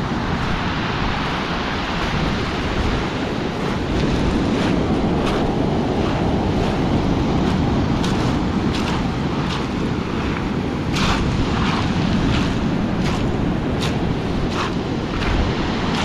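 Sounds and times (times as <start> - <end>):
surf washing over pebbles: 0.0 - 16.0.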